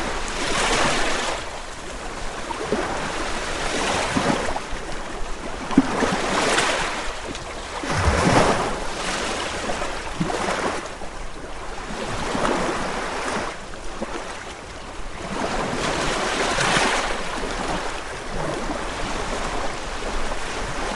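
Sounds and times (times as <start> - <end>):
ocean waves breaking: 0.0 - 20.9.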